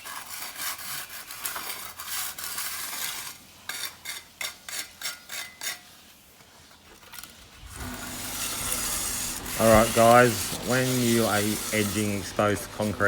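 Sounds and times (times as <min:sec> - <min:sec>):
hand edger scraping concrete: 0:00.0 - 0:06.0, 0:07.0 - 0:13.0.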